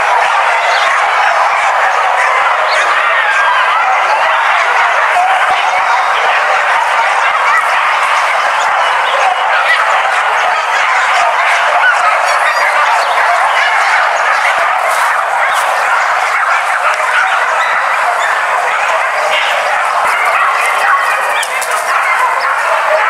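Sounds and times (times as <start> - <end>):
hunting dogs yelping and baying: 0.0 - 23.0.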